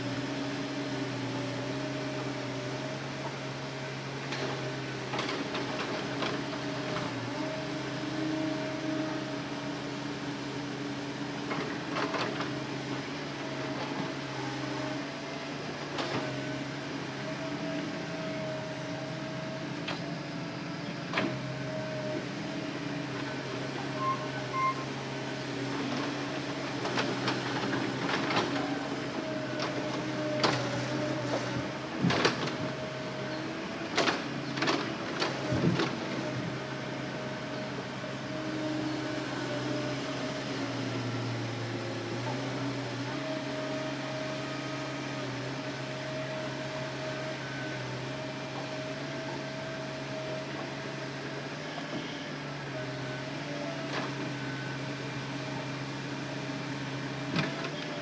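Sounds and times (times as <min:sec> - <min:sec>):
excavator running under load: 0:00.0 - 0:58.0.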